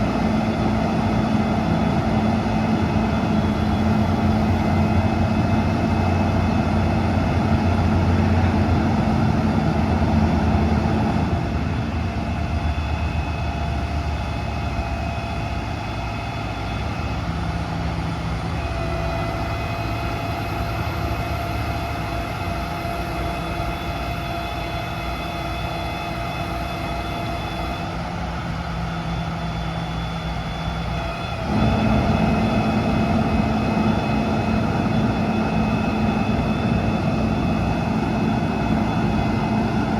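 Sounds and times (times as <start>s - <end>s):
diesel truck engine running: 0.0s - 39.9s
faint engine whine: 0.0s - 39.9s.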